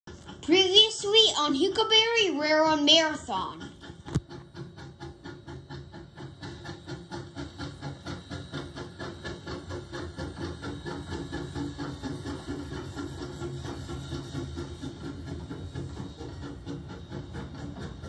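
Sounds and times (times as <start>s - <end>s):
steam hissing: 0.1s - 18.0s
steam locomotive chuffing: 0.1s - 18.0s
train coaches rumbling on rails: 0.1s - 18.0s.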